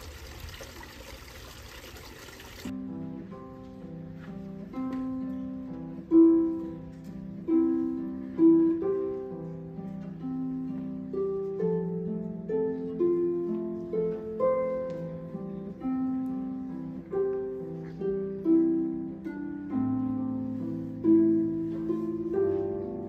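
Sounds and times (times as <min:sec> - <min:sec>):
slow plucked string melody: 0:02.7 - 0:23.0.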